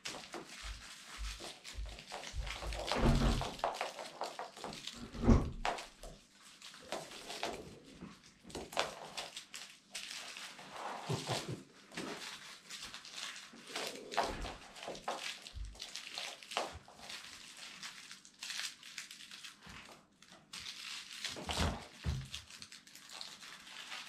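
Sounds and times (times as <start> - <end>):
toy and paws rustling: 0.0 - 24.0.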